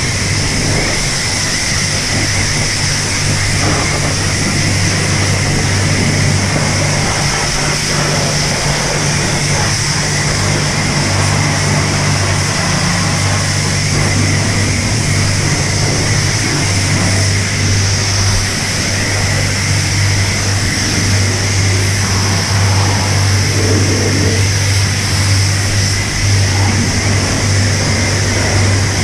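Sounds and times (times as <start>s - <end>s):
low hum: 0.0s - 29.0s
pressure washer spraying water: 0.0s - 29.0s.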